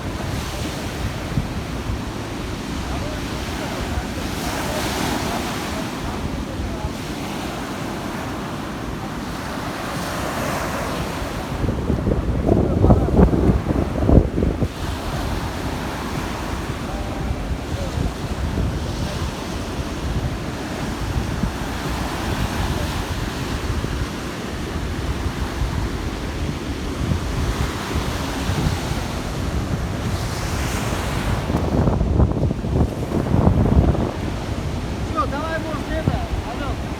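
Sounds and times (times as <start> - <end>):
waves breaking on beach: 0.0 - 36.9
wind buffeting microphone: 0.0 - 36.9.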